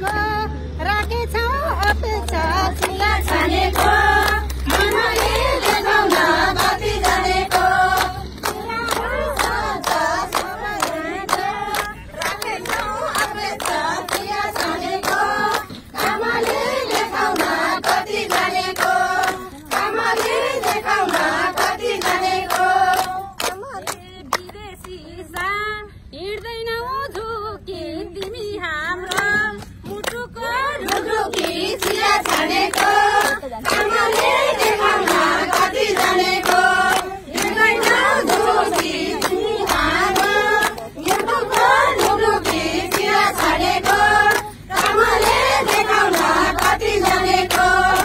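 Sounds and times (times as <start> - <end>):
hands clapping in rhythm: 0.0 - 0.3, 0.9 - 25.5, 26.3 - 48.0
women singing together: 0.0 - 48.0.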